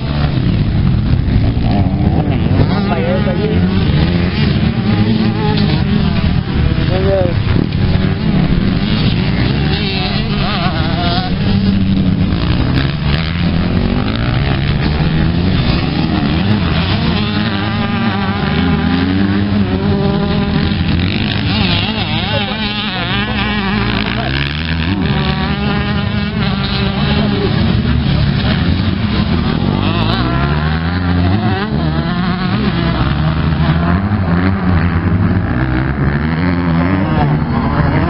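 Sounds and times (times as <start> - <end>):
motocross motorcycles revving: 0.0 - 38.0.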